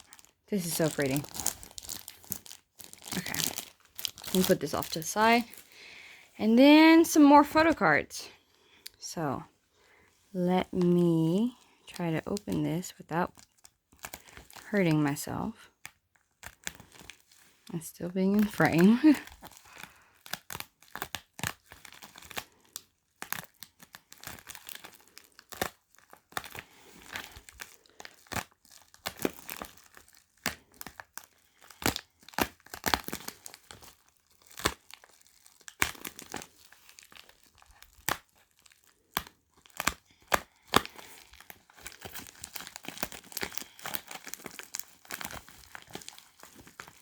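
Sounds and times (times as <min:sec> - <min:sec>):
package packaging tearing and crinkling: 0:00.0 - 0:05.9, 0:13.3 - 0:14.7, 0:15.7 - 0:17.6, 0:18.3 - 0:47.0.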